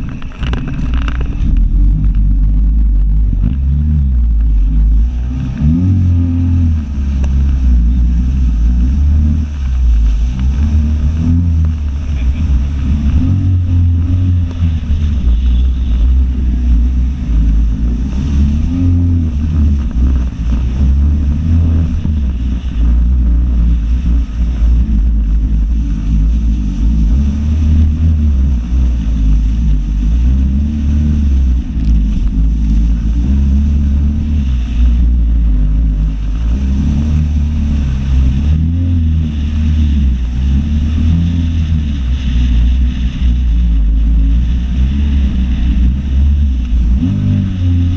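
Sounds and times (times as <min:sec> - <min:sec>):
jet ski engine at speed: 0:00.0 - 0:47.9
wind on microphone: 0:00.0 - 0:47.9.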